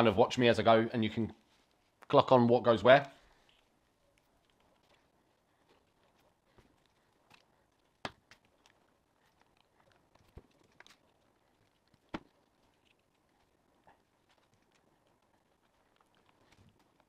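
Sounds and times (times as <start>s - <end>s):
small parts clicking and tapping: 3.3s - 17.0s.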